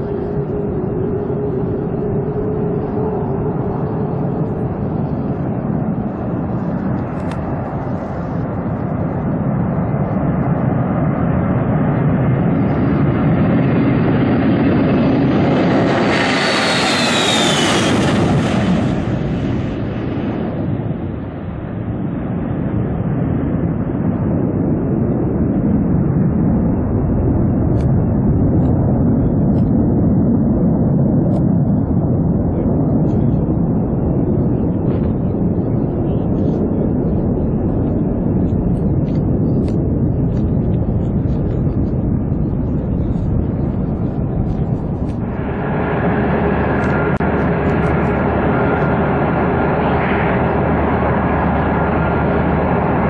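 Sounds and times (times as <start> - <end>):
jet engine rumble: 0.0 - 53.0
turboprop engines whining: 0.0 - 53.0.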